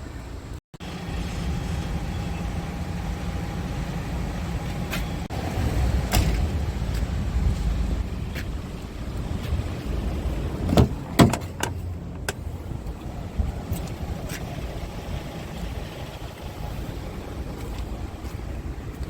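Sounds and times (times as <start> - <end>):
truck diesel engine idling: 0.2 - 19.0.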